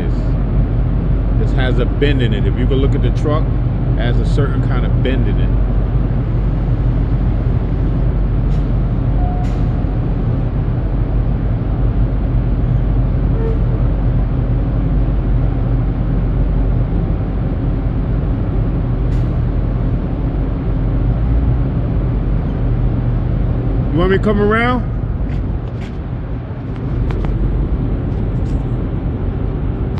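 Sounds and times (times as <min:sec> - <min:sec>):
diesel engine idling: 0:00.0 - 0:29.9.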